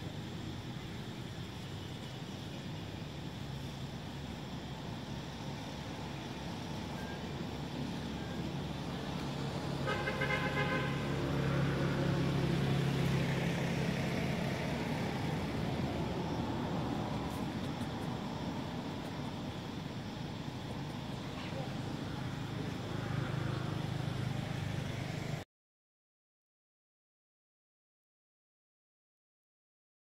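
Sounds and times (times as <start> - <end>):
vehicle engine hum passing: 0.0 - 25.4.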